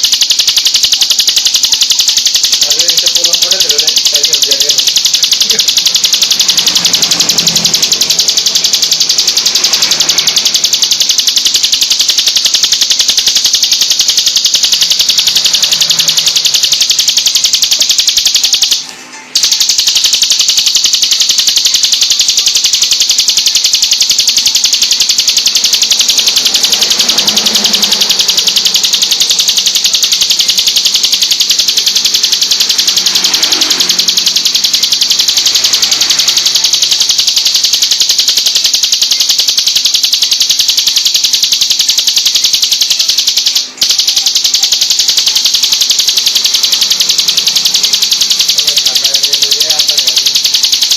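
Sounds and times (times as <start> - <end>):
bird fast high trill: 0.0 - 50.9.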